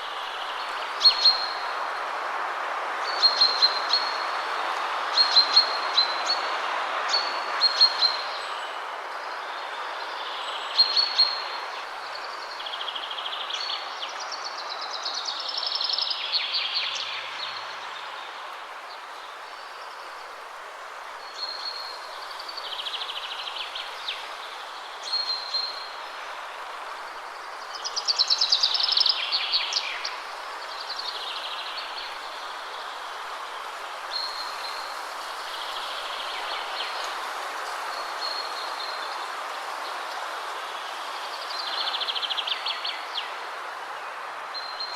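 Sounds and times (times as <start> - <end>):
wind through trees: 0.0 - 44.9.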